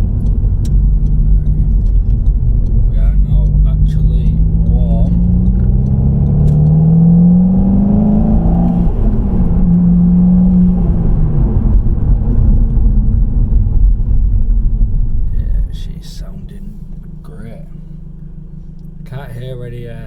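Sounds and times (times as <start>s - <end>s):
car engine accelerating: 0.0s - 20.0s
low road rumble: 0.0s - 20.0s.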